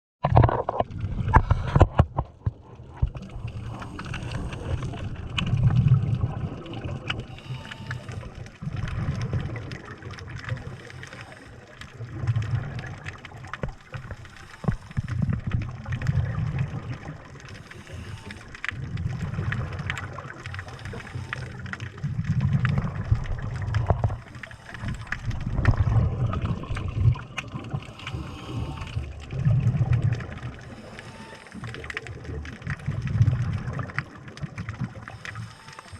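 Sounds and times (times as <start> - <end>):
underwater exhaled air bubbling: 0.2 - 35.9.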